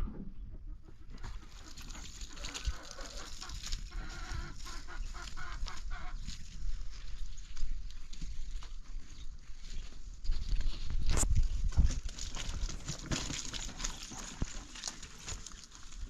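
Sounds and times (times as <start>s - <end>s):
farmyard animals calling: 0.7s - 10.0s, 12.2s - 16.0s.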